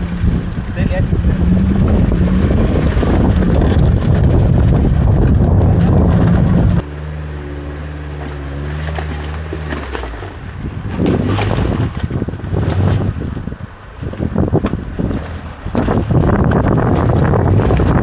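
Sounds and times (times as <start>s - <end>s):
wind noise on microphone: 0.0s - 6.9s, 9.4s - 18.0s
off-road vehicle engine running: 0.0s - 18.0s.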